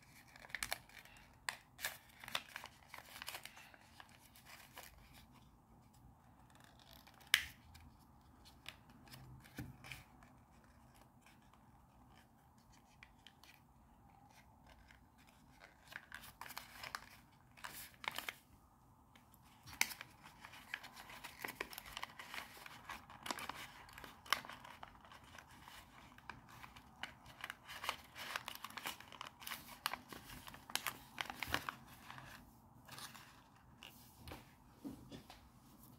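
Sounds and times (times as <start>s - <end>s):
paper crinkling and creasing: 0.0s - 18.5s, 19.1s - 34.5s.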